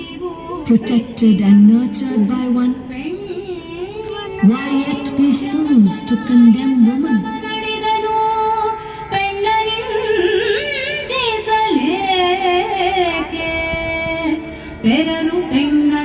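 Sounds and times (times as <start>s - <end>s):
woman singing slow melody: 0.0s - 16.0s.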